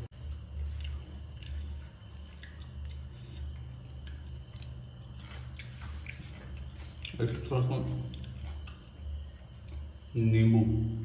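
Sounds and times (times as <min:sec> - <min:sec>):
person chewing crispy fish: 0:00.0 - 0:10.2
wet clicky mouth sounds: 0:00.6 - 0:09.9.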